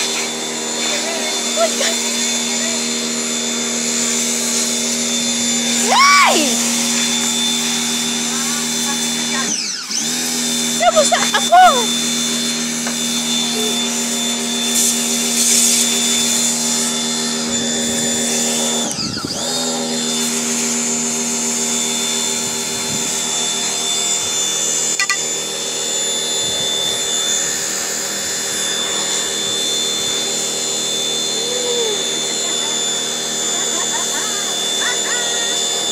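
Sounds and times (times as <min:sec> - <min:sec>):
pressure washer motor hum: 0:00.0 - 0:35.9.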